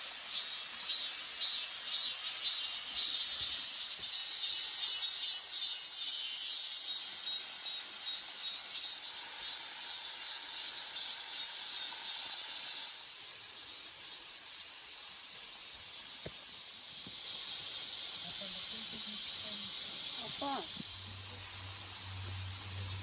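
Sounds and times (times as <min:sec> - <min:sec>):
insects high-pitched droning: 0:00.0 - 0:23.0.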